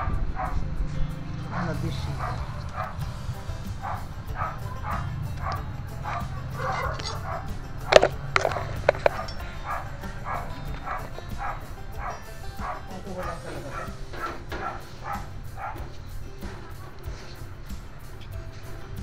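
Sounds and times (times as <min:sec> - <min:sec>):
music with steady beat: 0:00.0 - 0:19.0.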